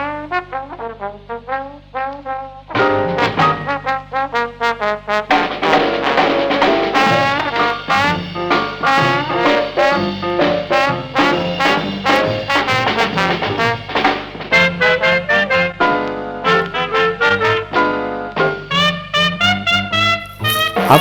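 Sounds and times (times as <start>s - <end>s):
upbeat swing music with brass: 0.1s - 21.0s.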